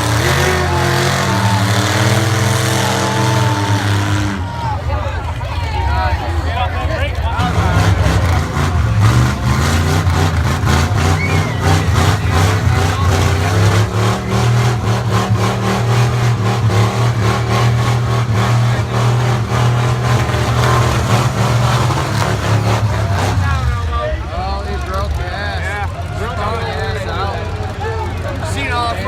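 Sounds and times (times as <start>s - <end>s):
truck engine revving high: 0.0s - 29.0s.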